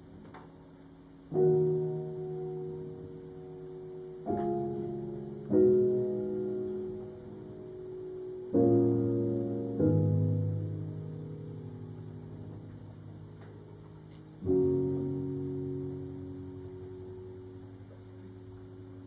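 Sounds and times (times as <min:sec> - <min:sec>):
slow solo piano chords: 0:00.0 - 0:19.0.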